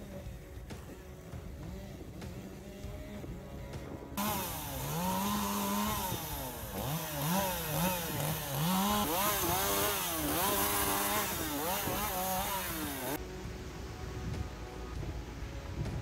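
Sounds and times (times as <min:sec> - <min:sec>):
chainsaw cutting branches: 0:00.0 - 0:13.2.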